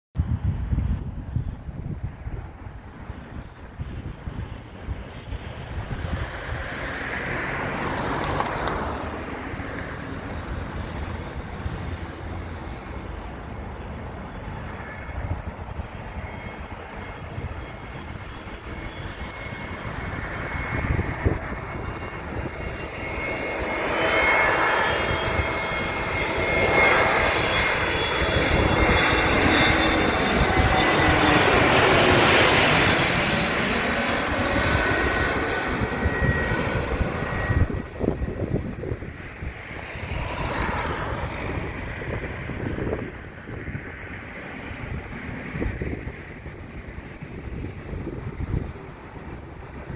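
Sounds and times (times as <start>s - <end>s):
airliner engines passing: 0.2s - 49.9s.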